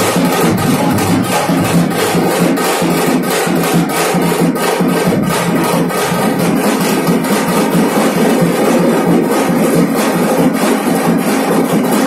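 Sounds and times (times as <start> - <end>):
loud distorted dhol drumming: 0.0 - 12.0.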